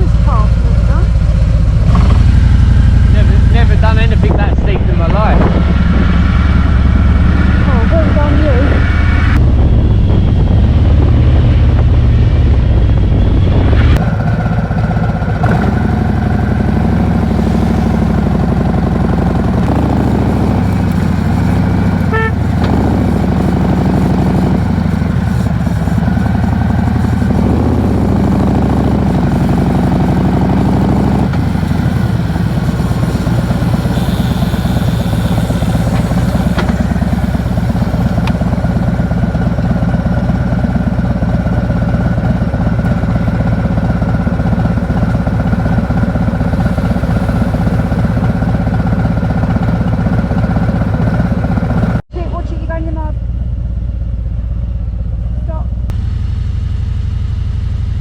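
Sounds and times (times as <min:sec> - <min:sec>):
motorcycle engine revving: 0:00.0 - 0:52.1.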